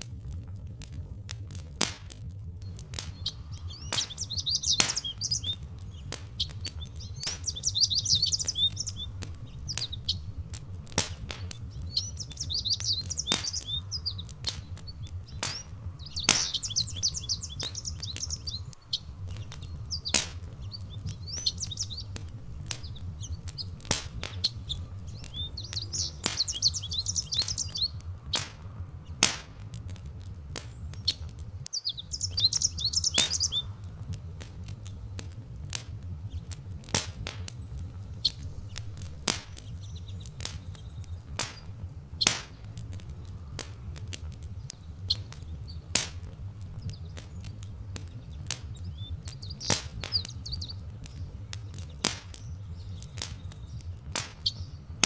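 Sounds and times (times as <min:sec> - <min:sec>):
crackling fire popping: 0:00.0 - 0:55.0
low rumble: 0:02.6 - 0:55.0
songbird warbling: 0:02.7 - 0:55.0.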